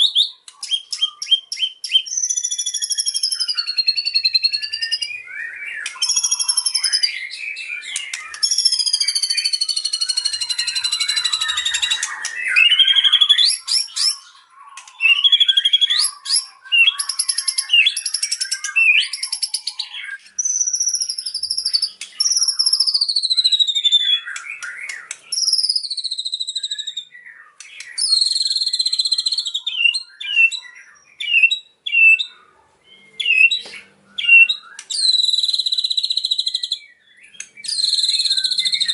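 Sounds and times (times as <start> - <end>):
songbird singing varied song: 0.0 - 38.9.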